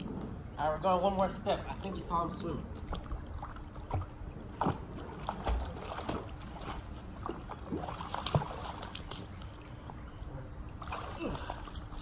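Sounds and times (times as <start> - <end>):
pool water splashing: 0.0 - 12.0.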